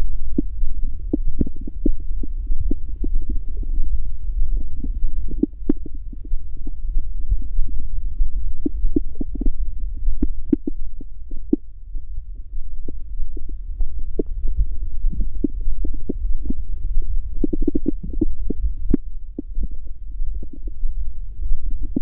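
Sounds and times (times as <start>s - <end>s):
stomach growling and gurgling: 0.0s - 11.6s, 12.4s - 20.9s.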